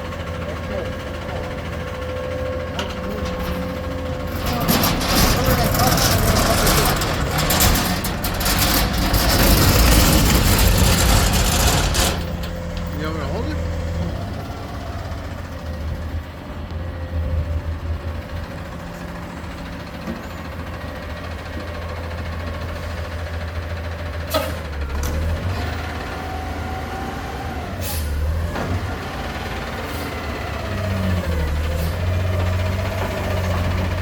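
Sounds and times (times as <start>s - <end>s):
garbage truck engine running: 0.0s - 34.0s.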